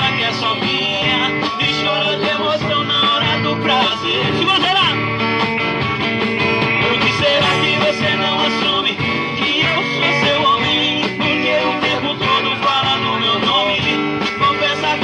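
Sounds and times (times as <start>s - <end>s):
guitar: 0.0s - 15.0s
live band playing: 0.0s - 15.0s.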